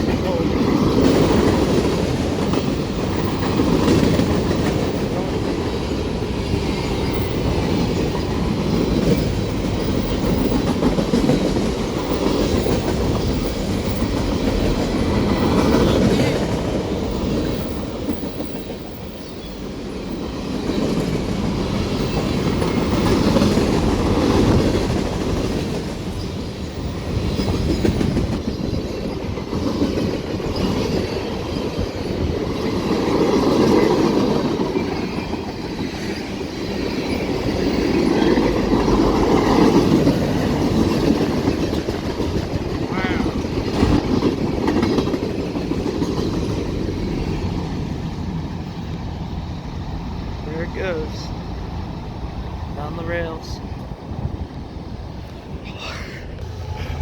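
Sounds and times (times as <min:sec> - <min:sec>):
freight train wheels clattering: 0:00.0 - 0:55.6.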